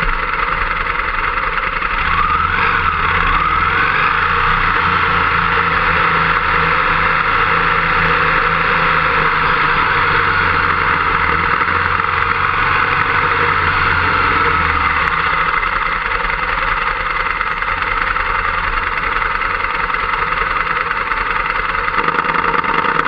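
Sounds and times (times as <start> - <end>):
motorcycle engine rumbling and idling: 0.0 - 23.0.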